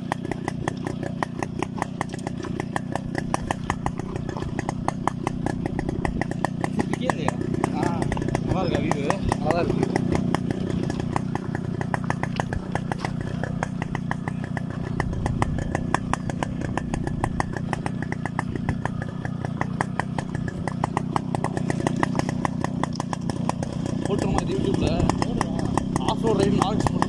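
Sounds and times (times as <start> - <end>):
motorcycle engine running: 0.0 - 27.0
sharp clicks and rattles: 0.0 - 27.0.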